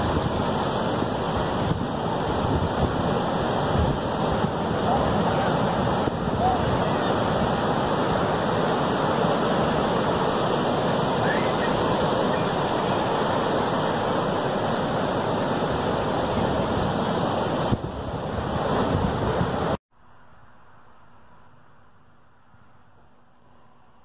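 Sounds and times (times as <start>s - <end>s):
ocean waves breaking: 0.0s - 19.8s.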